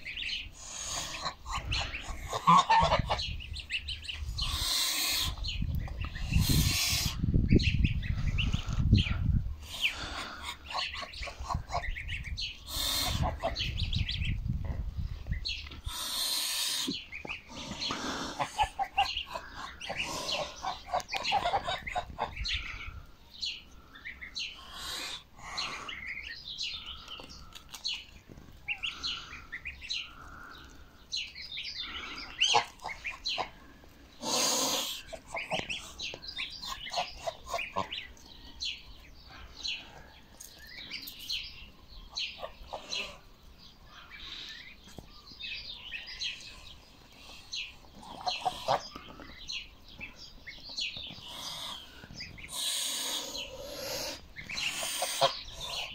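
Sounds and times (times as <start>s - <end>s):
goslings peeping: 0.0s - 55.9s.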